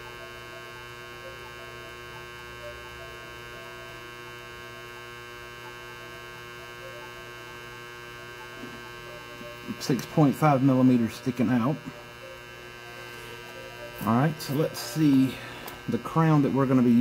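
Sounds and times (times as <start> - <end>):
buzzy electrical mains hum: 0.0 - 17.0.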